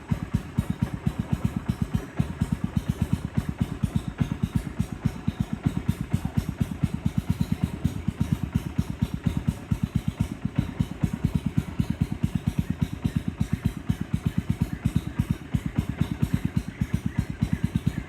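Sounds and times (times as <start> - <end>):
boat engine putt-putt: 0.0 - 18.0.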